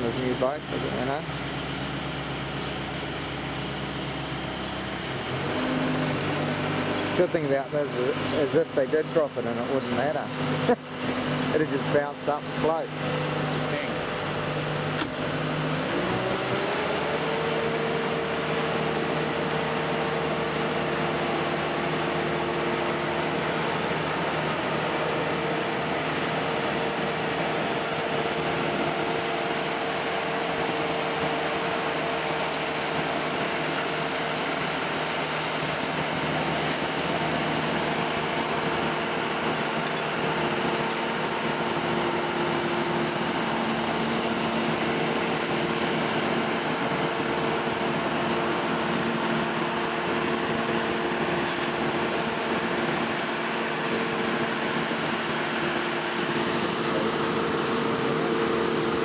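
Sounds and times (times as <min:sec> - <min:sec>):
lift machine hum with whine: 0:00.0 - 0:59.0.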